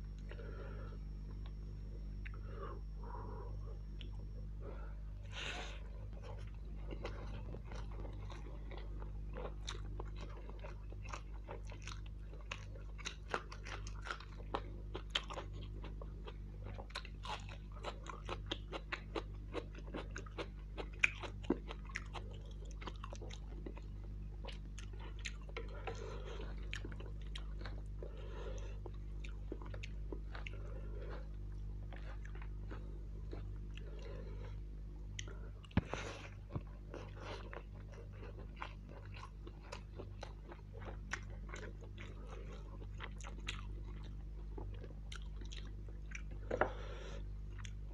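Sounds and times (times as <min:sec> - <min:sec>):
steady low hum: 0:00.0 - 0:47.9
wet chewing with clicks: 0:06.1 - 0:46.8, 0:47.5 - 0:47.9.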